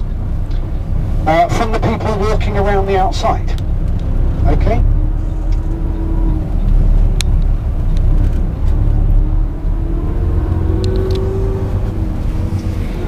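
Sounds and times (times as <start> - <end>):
coach engine and road rumble: 0.0 - 13.0.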